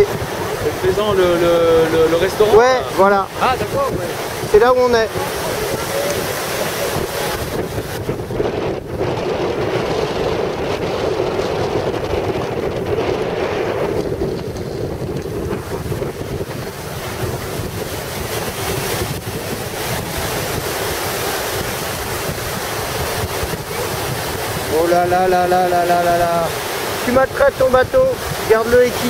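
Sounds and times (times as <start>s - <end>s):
rushing whitewater: 0.0s - 29.0s
wind buffeting microphone: 0.0s - 29.0s.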